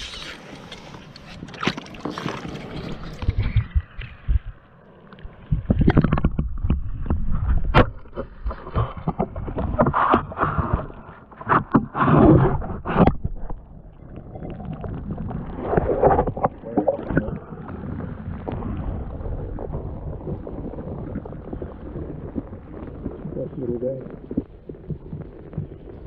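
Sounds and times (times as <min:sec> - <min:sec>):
muffled water sloshing and gurgling: 0:00.0 - 0:26.0.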